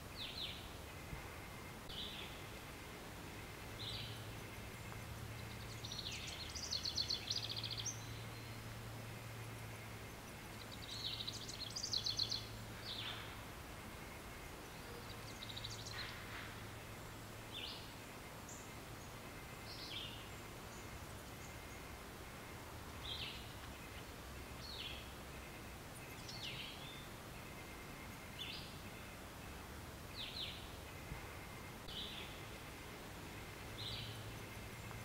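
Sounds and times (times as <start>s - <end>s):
birds chirping: 0.0s - 35.0s
low hum and hiss: 0.0s - 35.0s.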